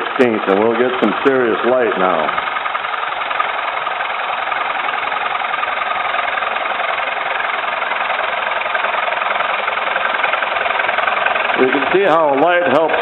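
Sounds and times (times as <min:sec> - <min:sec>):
lathe gouge cutting wood: 0:00.0 - 0:13.0.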